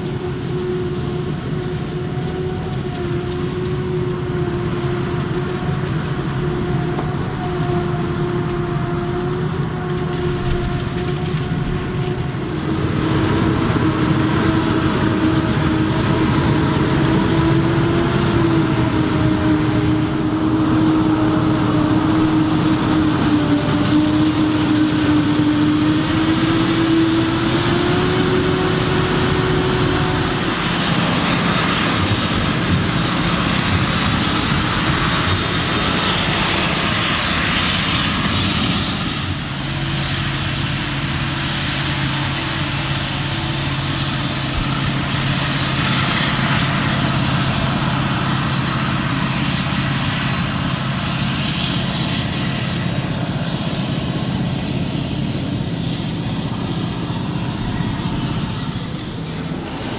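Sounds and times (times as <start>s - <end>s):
forage harvester drone and whine: 0.0s - 59.9s
tractor engine: 0.0s - 59.9s.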